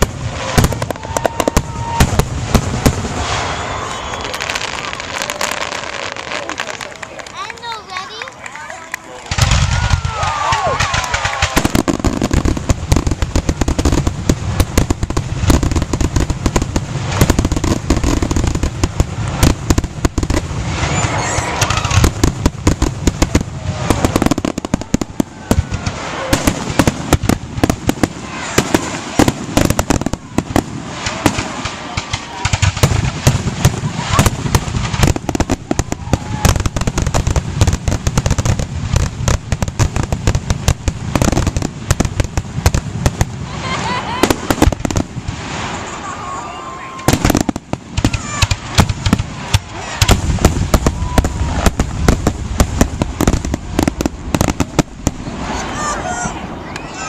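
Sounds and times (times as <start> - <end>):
low firework booms: 0.0 - 7.0, 9.3 - 45.9, 47.0 - 55.5
fireworks bangs and crackling: 0.0 - 57.0.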